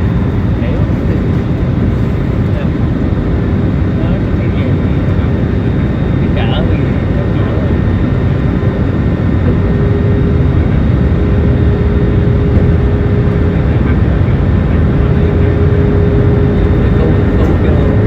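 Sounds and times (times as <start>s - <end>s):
engine rumble and rushing air: 0.0s - 18.0s
steady hum: 0.0s - 18.0s.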